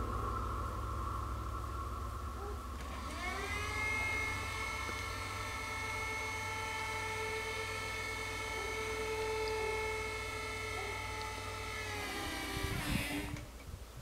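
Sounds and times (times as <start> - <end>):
barrier motor hum: 0.0 - 13.6.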